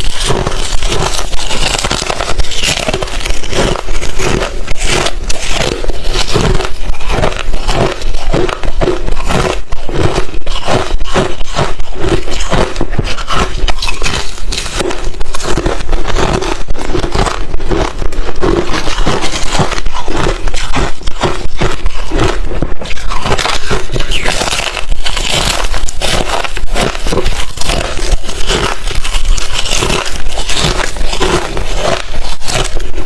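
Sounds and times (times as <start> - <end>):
person chewing ice: 0.0 - 33.0.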